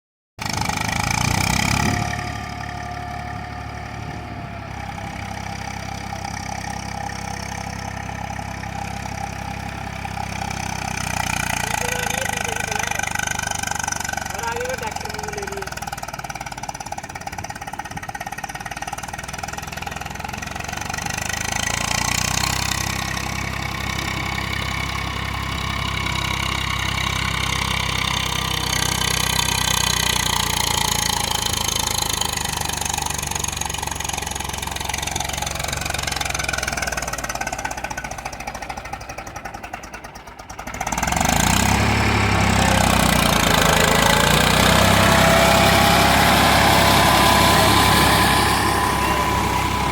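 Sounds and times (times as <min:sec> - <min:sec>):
tractor engine knocking: 0:00.4 - 0:49.9.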